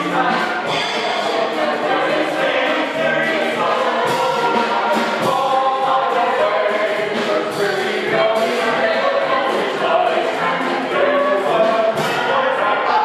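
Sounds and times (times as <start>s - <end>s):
stage cast singing in chorus: 0.0s - 13.0s.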